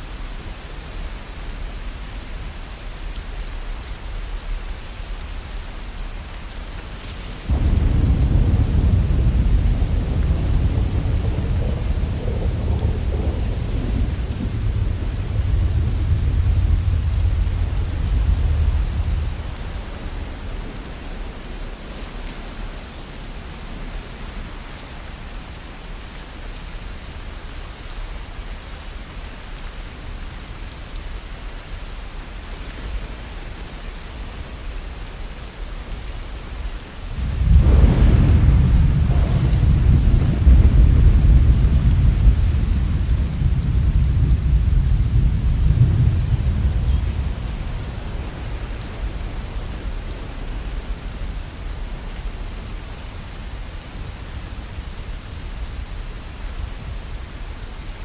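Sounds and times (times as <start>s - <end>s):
heavy rain: 0.0s - 58.0s
low rumble of thunder: 7.2s - 26.1s, 30.0s - 58.0s.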